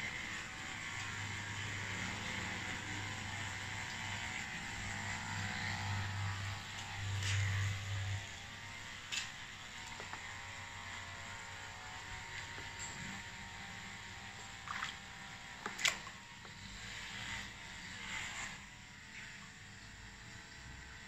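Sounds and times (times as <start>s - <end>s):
water pump humming: 0.0s - 21.0s.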